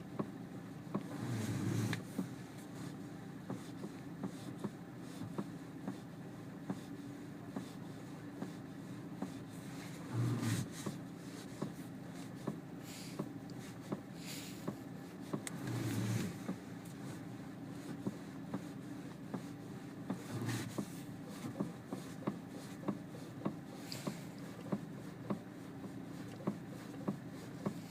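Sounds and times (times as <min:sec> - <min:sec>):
engine hum: 0:00.0 - 0:27.9
steering knocking: 0:00.0 - 0:27.9.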